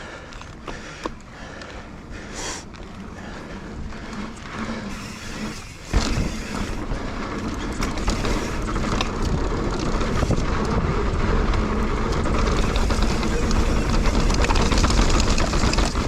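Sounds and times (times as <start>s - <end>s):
bike clicks and knocks: 0.0s - 1.8s, 3.8s - 16.0s
bike tyres rolling on dirt: 0.0s - 16.0s.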